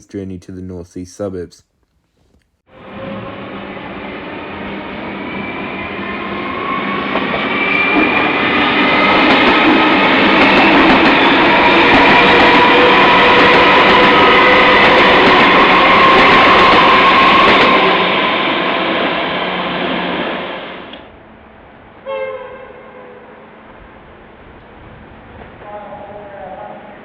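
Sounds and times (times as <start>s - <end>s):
diesel train running on rails: 2.7s - 27.0s.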